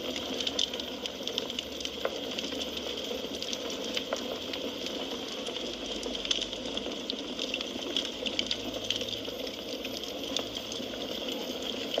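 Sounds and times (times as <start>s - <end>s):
fire crackles and pops: 0.0s - 12.0s
wood fire hissing: 0.0s - 12.0s.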